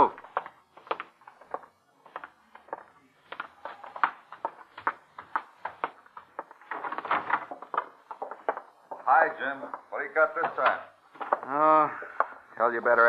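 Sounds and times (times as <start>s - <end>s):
footsteps of people walking: 0.0s - 12.6s.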